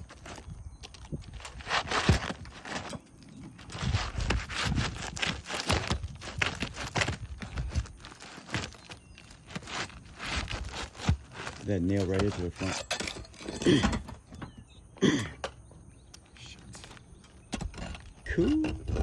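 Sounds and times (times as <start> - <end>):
knocks and scrapes on shingle roof: 0.0 - 15.7, 16.8 - 19.0.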